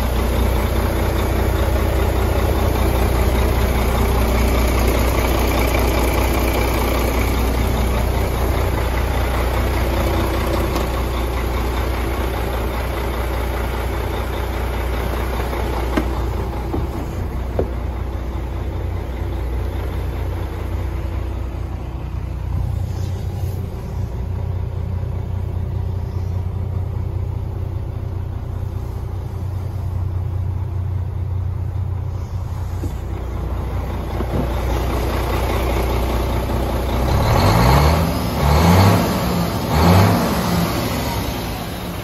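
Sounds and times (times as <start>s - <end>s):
diesel engine idling and revving: 0.0s - 42.0s.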